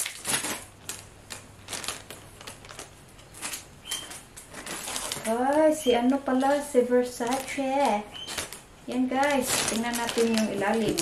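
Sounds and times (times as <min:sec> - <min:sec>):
cloth rustling: 0:00.0 - 0:11.0
plastic bag crinkling: 0:00.0 - 0:11.0.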